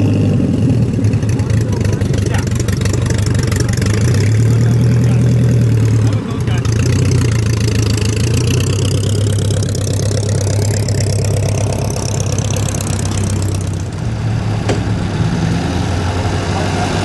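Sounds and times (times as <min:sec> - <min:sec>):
vintage car engines running: 0:00.0 - 0:17.0.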